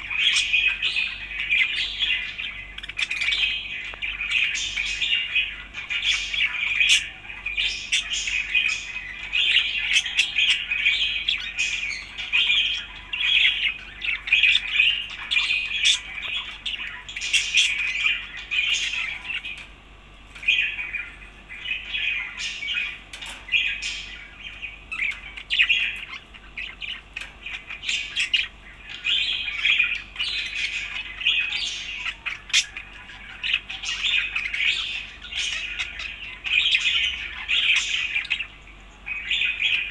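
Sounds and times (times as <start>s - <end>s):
budgerigar chattering and chirping: 0.0s - 19.7s, 20.3s - 39.9s.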